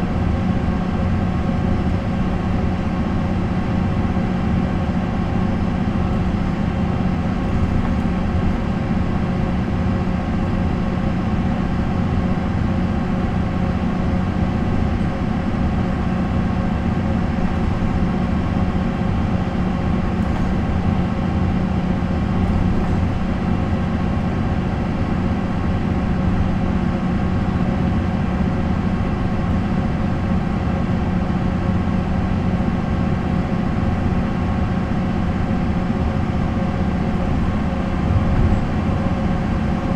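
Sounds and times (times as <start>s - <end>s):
diesel bus engine running steadily: 0.0s - 39.9s.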